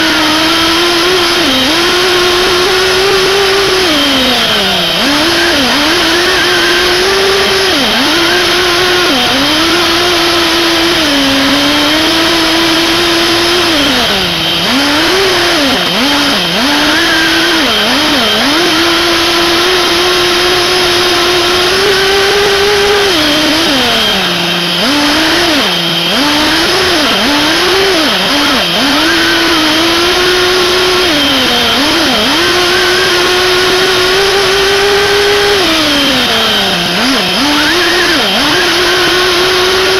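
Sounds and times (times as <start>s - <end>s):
high whine: 0.0s - 39.9s
model engine revving: 0.0s - 39.9s.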